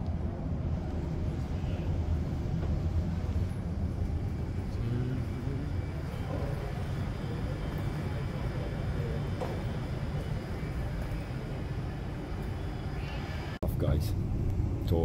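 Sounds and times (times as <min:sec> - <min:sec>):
stationary train rumble: 0:00.0 - 0:15.0.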